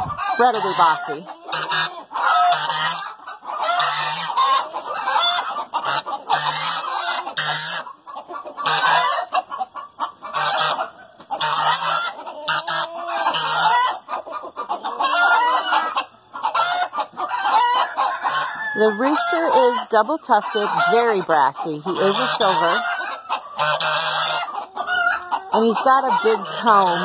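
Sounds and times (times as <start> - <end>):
hens cackling: 0.0 - 27.0.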